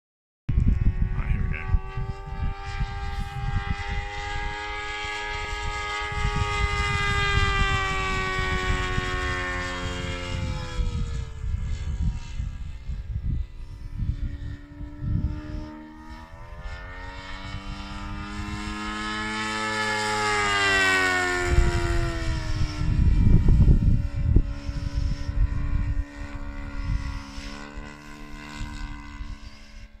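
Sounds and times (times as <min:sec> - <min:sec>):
model plane engine: 0:00.5 - 0:30.0.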